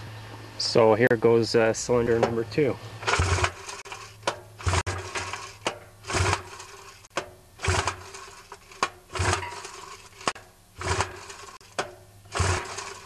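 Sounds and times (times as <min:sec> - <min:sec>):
outboard engine recoil starter whirring: 0:02.1 - 0:13.0.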